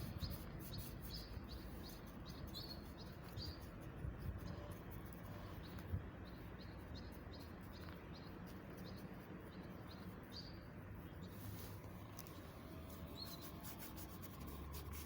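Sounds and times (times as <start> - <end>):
small bird chirping faintly: 0.0 - 15.0.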